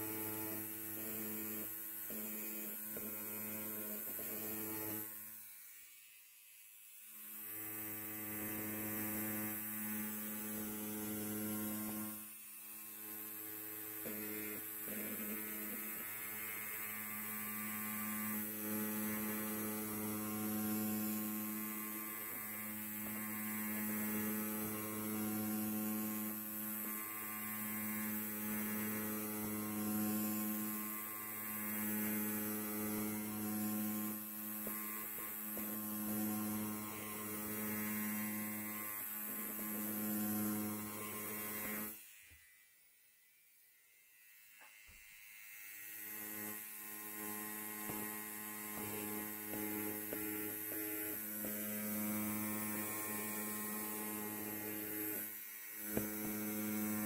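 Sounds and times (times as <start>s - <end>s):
electric hair clipper buzzing: 0.0s - 57.0s.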